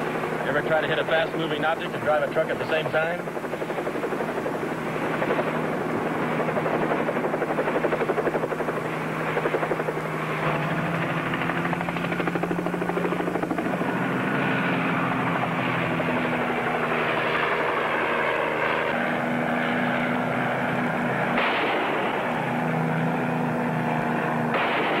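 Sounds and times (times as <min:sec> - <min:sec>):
helicopter rotor throbbing: 0:00.0 - 0:25.0.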